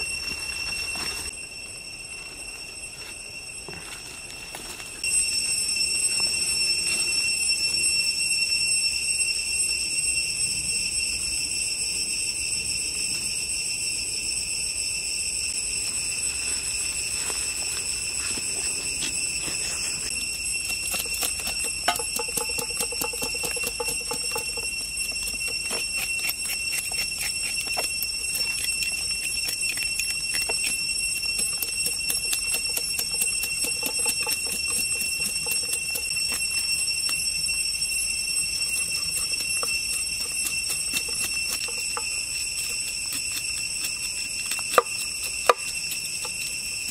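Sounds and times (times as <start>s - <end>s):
forest insects droning: 0.0s - 46.9s.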